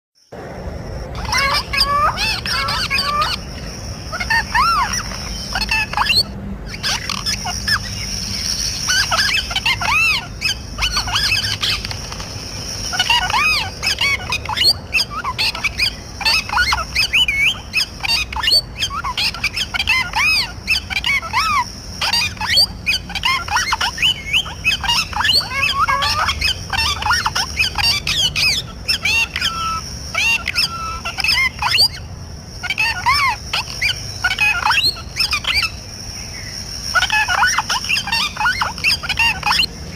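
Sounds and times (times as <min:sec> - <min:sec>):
parrots squawking and chirping: 0:01.0 - 0:39.9.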